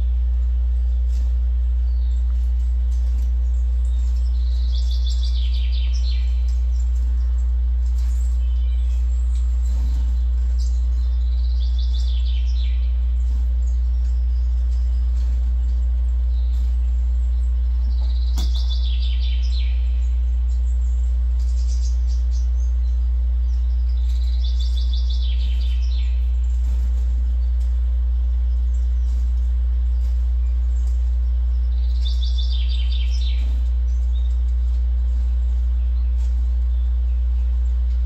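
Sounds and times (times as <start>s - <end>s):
loud steady low hum: 0.0s - 38.0s.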